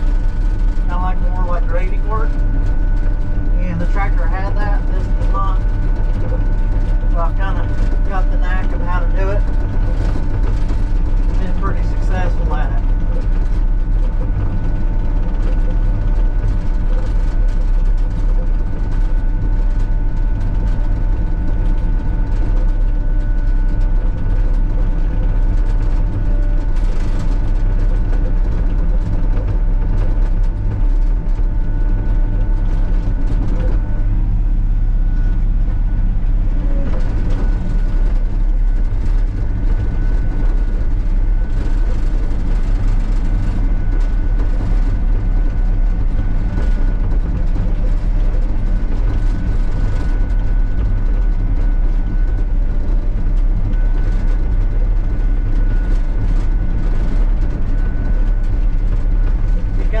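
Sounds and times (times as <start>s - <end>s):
excavator engine drone: 0.0s - 60.0s.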